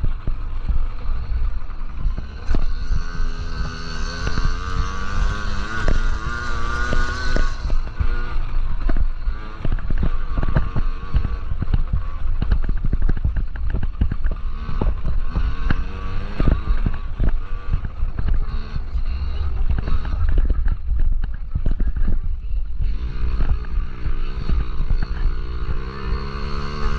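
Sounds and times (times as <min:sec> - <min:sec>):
knocks and crackles: 0:00.0 - 0:26.9
minibike engine revving: 0:00.0 - 0:26.9.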